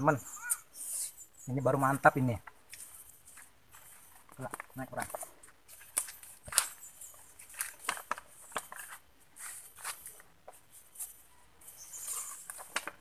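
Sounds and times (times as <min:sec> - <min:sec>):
tree leaves and branches rustling: 0:00.0 - 0:13.0.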